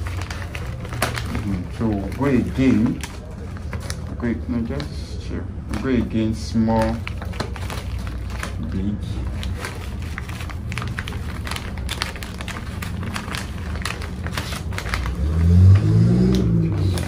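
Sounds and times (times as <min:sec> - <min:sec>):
stiff fabric rustling and crackling: 0:00.0 - 0:04.9, 0:05.7 - 0:17.0.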